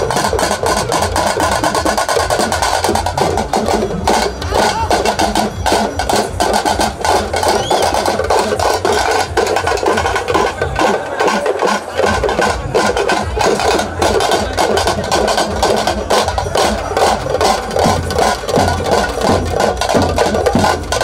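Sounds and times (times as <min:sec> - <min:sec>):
drums beaten fast: 0:00.0 - 0:21.0.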